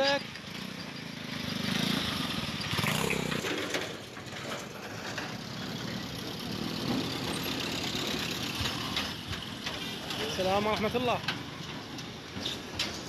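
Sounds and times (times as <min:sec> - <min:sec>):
car engines idling and running: 0:00.0 - 0:13.0.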